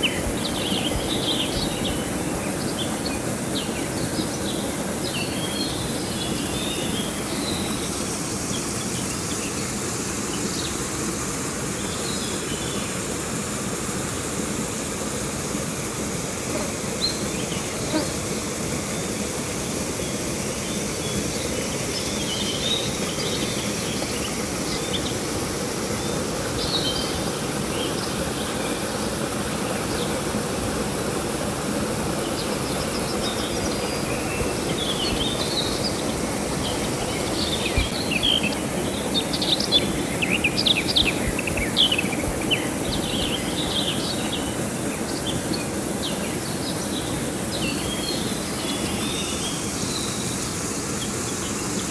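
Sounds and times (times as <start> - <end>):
small birds chirping: 0.0 - 10.9, 18.9 - 31.0, 32.1 - 51.8
flowing river water: 0.0 - 51.9.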